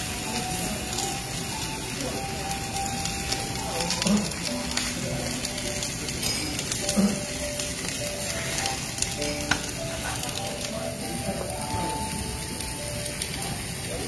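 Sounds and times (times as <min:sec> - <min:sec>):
food sizzling in a hot pan: 0:00.0 - 0:14.0.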